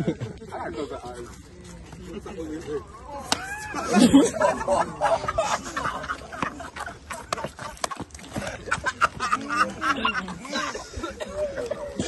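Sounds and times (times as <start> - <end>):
people laughing and shouting: 0.0 - 12.0.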